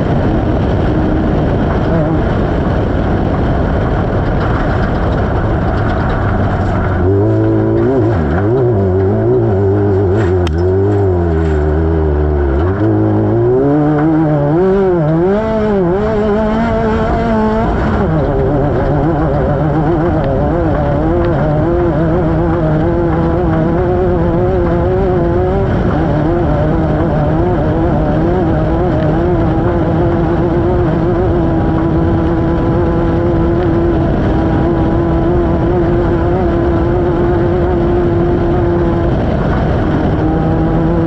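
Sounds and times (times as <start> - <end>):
engine revving: 0.0 - 41.0
wind and terrain rushing: 0.0 - 41.0.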